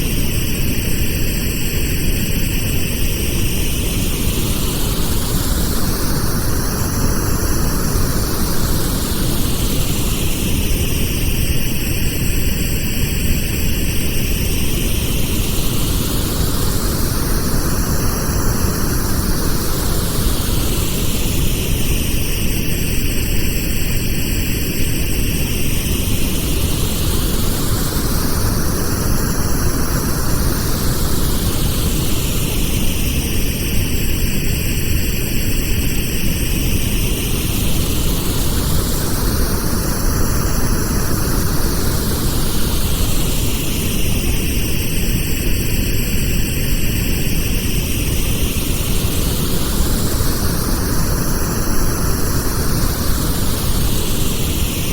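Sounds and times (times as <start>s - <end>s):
pink noise hiss: 3.3s - 12.1s, 12.8s - 23.2s, 24.8s - 54.9s.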